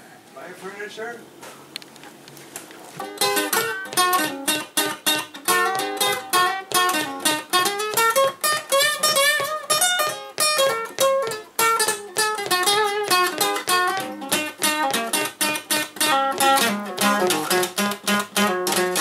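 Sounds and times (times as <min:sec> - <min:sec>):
acoustic guitar strumming: 0:03.0 - 0:19.0.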